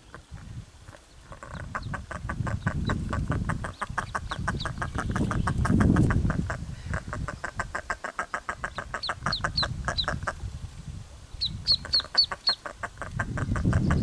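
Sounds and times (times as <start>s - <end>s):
ducklings peeping: 0.0s - 10.5s, 11.4s - 14.0s
rapid clucking call: 1.3s - 10.4s, 11.7s - 14.0s.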